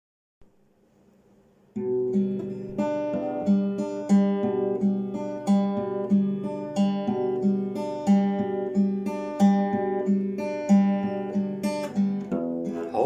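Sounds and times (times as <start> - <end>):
acoustic guitar chords: 1.7 - 13.0.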